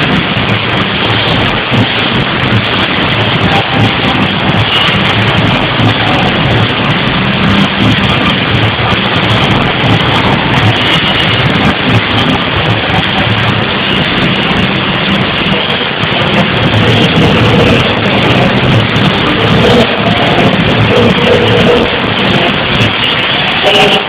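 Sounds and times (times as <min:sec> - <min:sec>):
distorted club dance music: 0:00.0 - 0:24.0.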